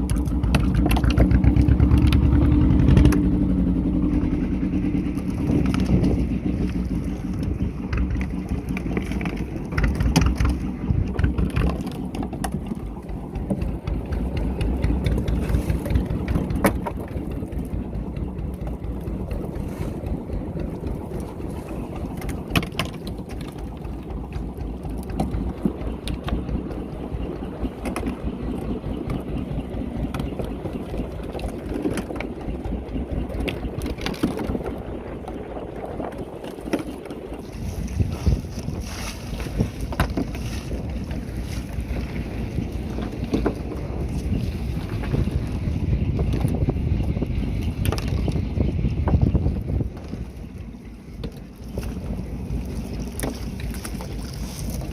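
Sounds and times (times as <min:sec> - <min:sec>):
boat engine running: 0:00.0 - 0:54.9.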